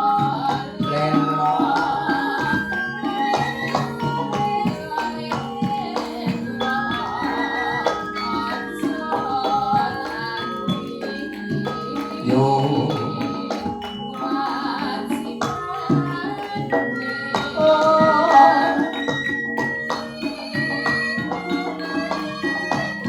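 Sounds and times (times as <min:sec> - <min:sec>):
band with drums and percussion: 0:00.0 - 0:23.0
woman singing: 0:00.0 - 0:23.0.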